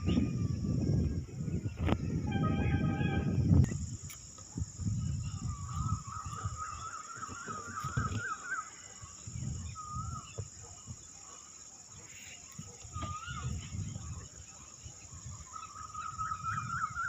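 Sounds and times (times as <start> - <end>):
high drone of insects: 0.0 - 17.0.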